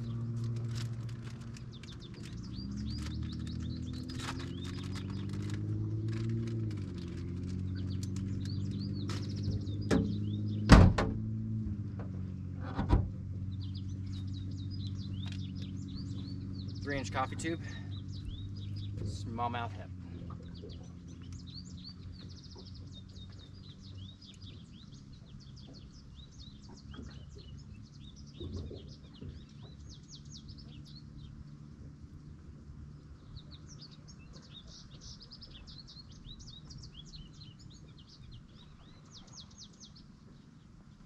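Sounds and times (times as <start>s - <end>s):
small birds chirping: 0.0s - 10.8s, 13.3s - 41.0s.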